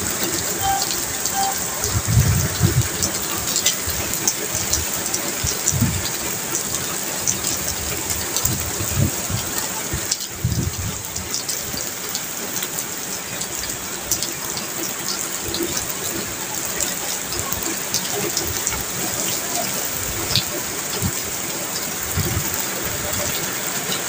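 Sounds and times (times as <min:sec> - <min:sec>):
rain on concrete and puddles: 0:00.0 - 0:24.0.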